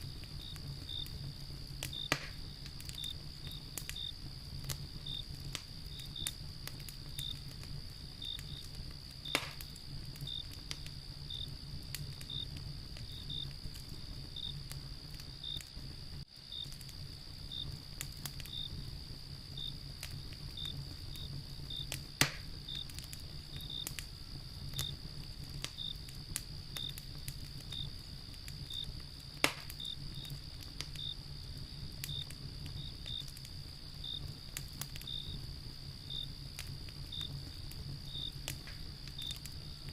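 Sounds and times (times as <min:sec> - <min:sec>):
cricket chirping: 0:00.0 - 0:39.9
fire pops: 0:00.0 - 0:39.9
high insect trill: 0:00.0 - 0:39.9
wood fire crackling: 0:00.0 - 0:39.9.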